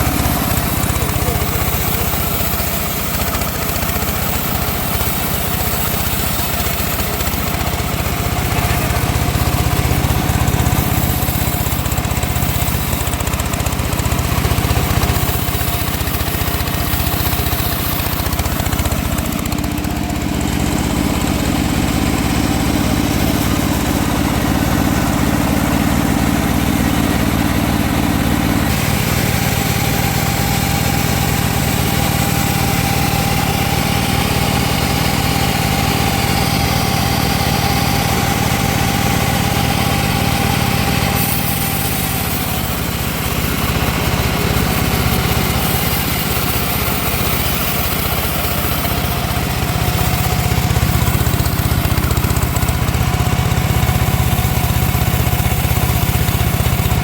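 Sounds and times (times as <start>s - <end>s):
engine-driven sawmill sawing wood: 0.0s - 57.0s.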